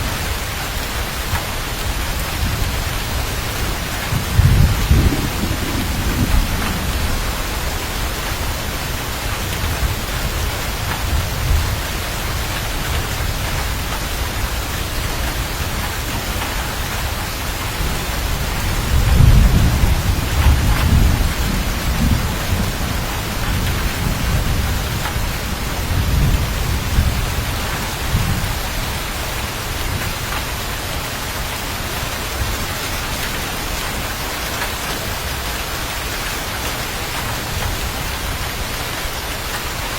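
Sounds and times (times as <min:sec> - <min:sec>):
steady rain: 0:00.0 - 0:39.9
rolling thunder rumble: 0:01.4 - 0:39.4.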